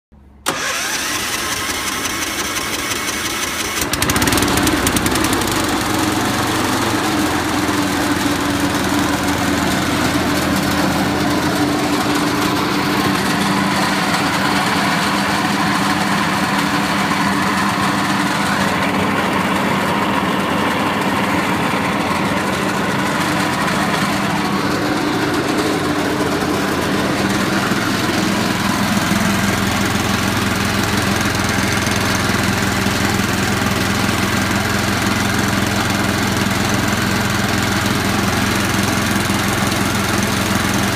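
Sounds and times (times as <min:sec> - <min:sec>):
small gasoline engine running: 0:00.5 - 0:40.9.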